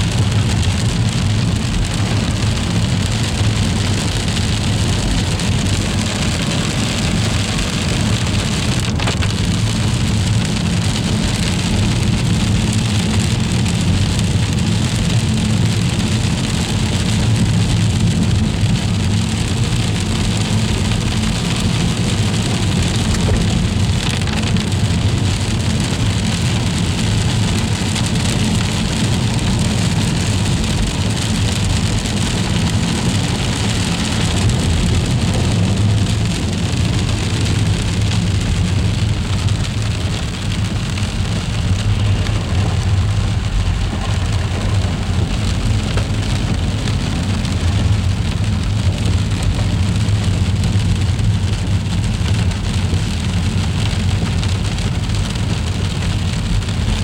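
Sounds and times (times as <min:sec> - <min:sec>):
low rumble: 0:00.0 - 0:55.4
freezing rain hissing: 0:00.0 - 0:57.0.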